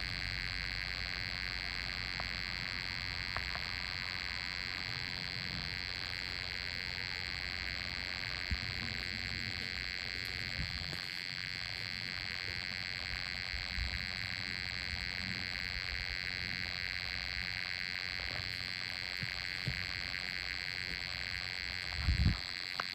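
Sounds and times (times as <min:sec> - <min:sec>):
insects chorus at night: 0:00.0 - 0:22.9.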